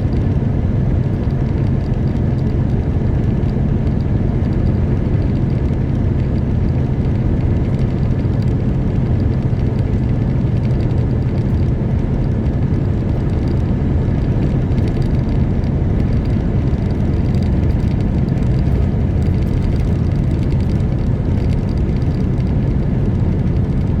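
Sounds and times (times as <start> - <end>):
road noise: 0.0 - 24.0
truck diesel engine drone: 0.0 - 24.0.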